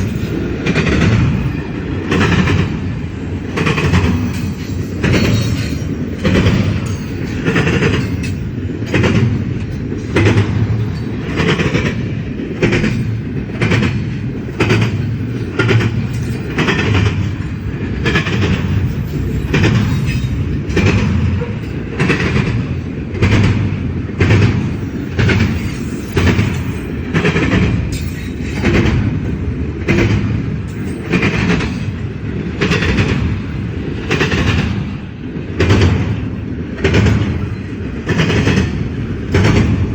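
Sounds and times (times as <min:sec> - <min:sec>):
freight train low rumble: 0:00.0 - 0:39.9
train wheels clicking over rail joints: 0:00.0 - 0:39.9.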